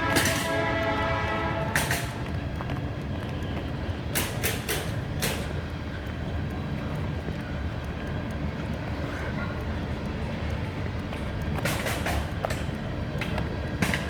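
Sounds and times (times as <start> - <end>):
sharp metallic clacks: 0.0 - 8.9, 10.0 - 14.0
freight train rumbling past: 0.0 - 14.0.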